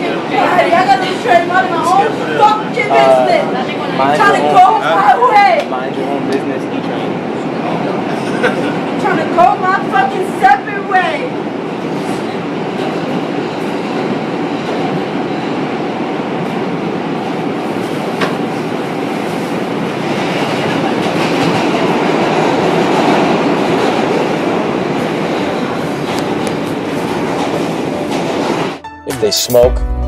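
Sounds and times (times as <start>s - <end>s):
subway train rumble and rattle: 0.0s - 28.8s.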